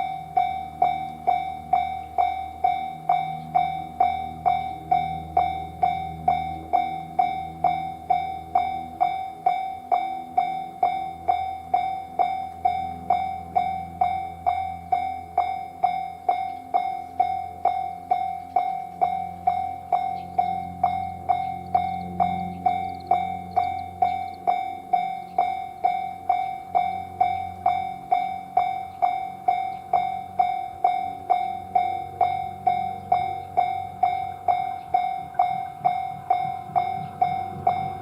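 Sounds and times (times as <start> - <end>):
level crossing bell ringing: 0.0 - 38.0.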